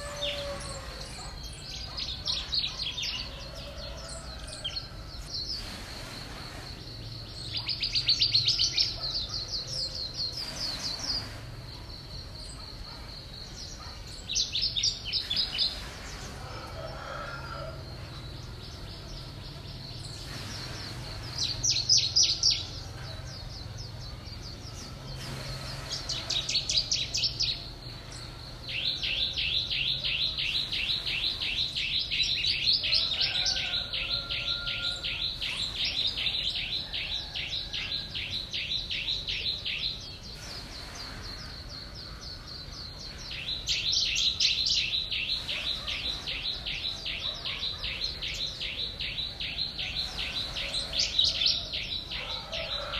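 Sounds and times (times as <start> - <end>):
bird chirping rapidly: 0.0 - 16.5, 17.8 - 52.9.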